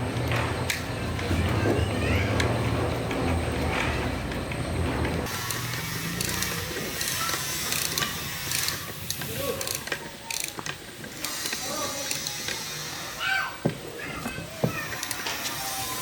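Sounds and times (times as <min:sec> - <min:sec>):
tools clicking and ratcheting: 0:02.3 - 0:13.4, 0:14.2 - 0:16.0.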